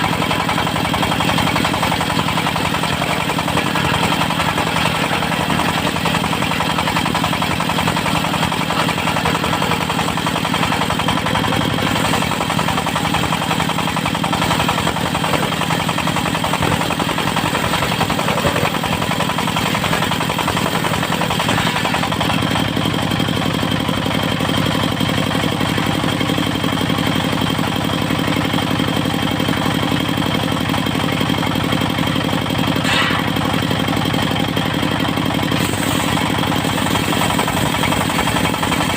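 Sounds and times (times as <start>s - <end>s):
saw rig engine running: 0.0s - 38.9s.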